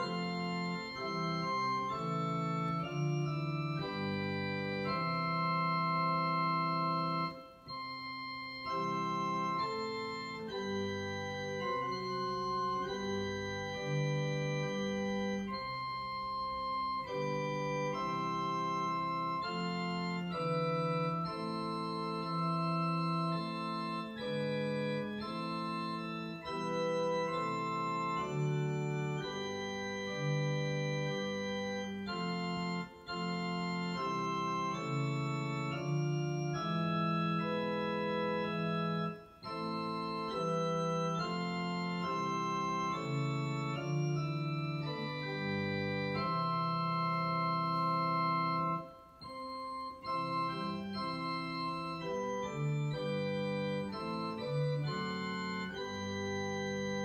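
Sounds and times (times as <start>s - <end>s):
organ chords on digital piano: 0.0s - 57.0s.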